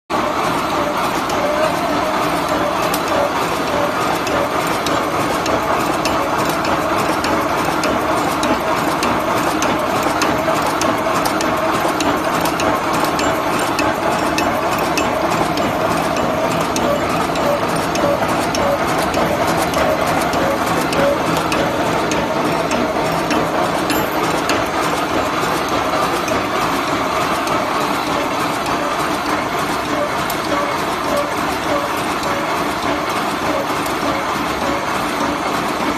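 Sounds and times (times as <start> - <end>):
wire mesh machine clattering: 0.2 - 35.9.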